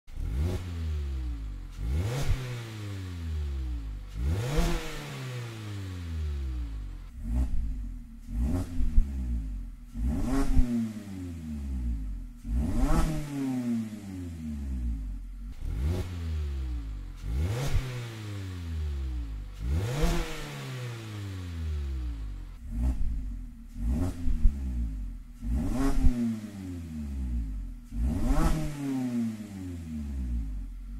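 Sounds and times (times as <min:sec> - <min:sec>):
car engine revving: 0:00.1 - 0:30.9.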